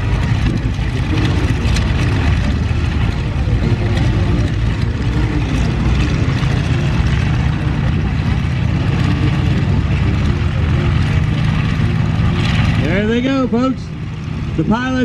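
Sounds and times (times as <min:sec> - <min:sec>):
biplane radial engines running: 0:00.0 - 0:15.0.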